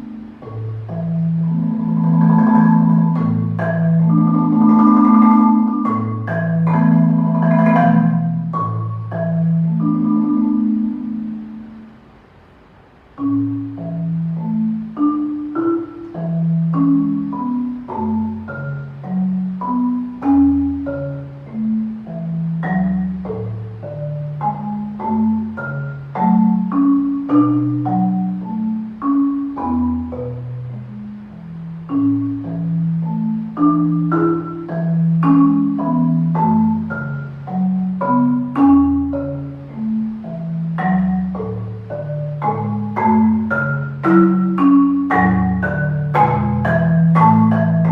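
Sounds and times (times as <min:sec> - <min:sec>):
solo marimba playing: 0:00.0 - 0:12.0, 0:13.1 - 0:47.9.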